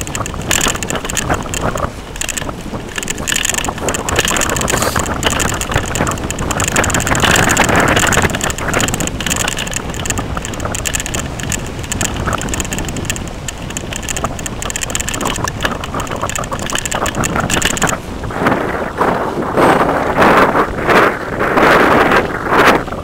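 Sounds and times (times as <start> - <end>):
tyres rumbling on rough asphalt: 0.0 - 23.0
wind buffeting microphone: 0.0 - 23.0.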